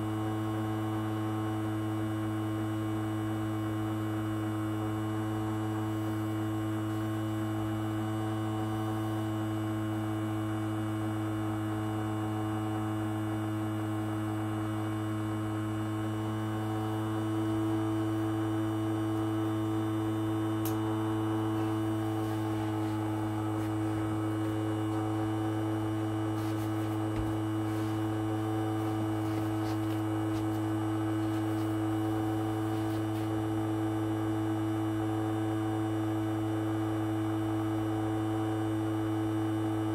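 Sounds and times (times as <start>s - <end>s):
ultrasonic cleaner humming: 0.0s - 39.9s.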